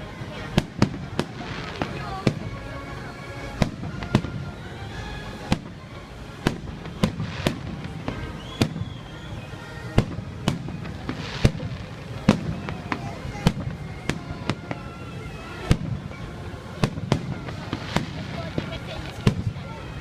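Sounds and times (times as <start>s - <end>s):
fireworks bursting with sharp bangs: 0.0s - 20.0s.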